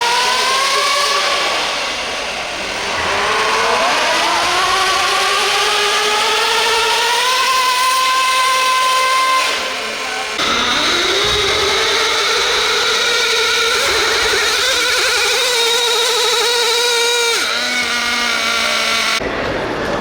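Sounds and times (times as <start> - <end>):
electric motor whining: 0.0 - 19.2.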